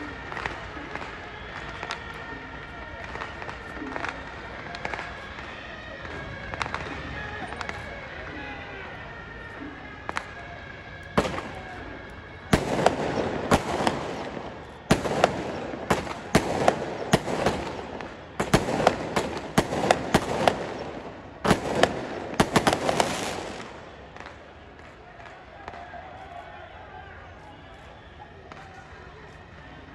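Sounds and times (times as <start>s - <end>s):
sharp firecracker bangs: 0.0s - 8.3s, 9.8s - 26.1s
firecrackers crackling: 0.0s - 29.9s.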